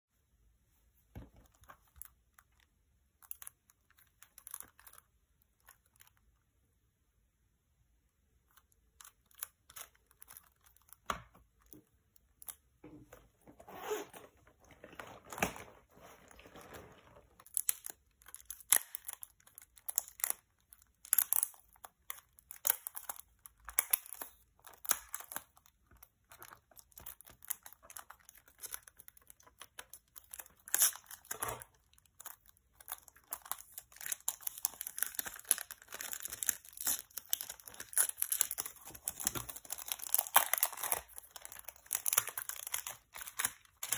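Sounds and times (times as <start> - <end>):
cellophane crinkling and tearing: 1.2 - 6.2, 8.5 - 12.6, 13.7 - 43.9.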